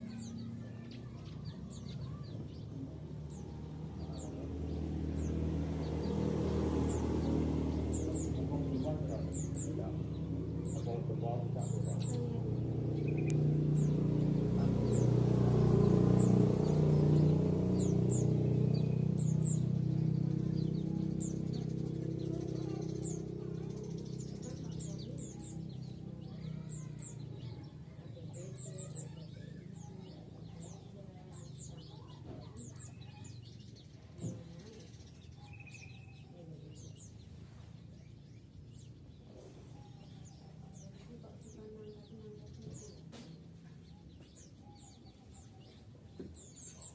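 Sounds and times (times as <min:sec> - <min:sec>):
birds chirping high: 0:00.0 - 0:46.9.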